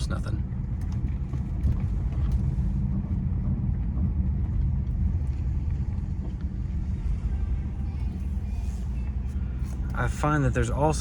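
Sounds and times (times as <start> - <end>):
low rumble of car rolling slowly: 0.0 - 11.0.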